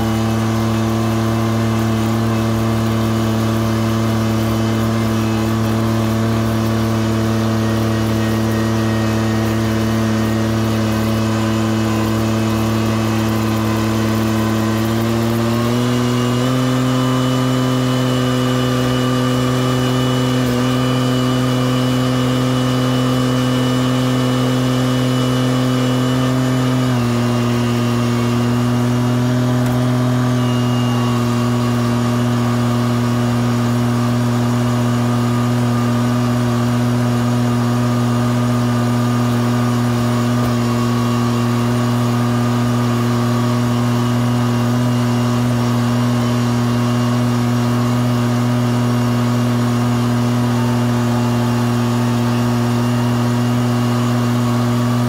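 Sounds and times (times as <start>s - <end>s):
riding mower engine running: 0.0s - 55.0s.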